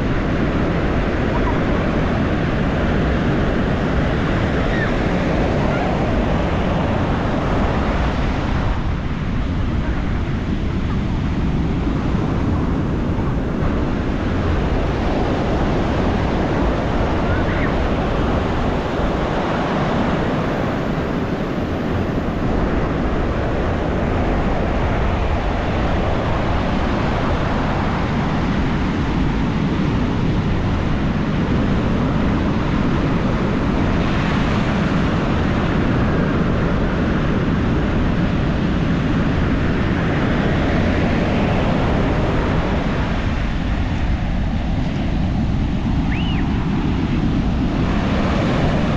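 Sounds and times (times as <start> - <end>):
waves breaking on beach: 0.0 - 48.9.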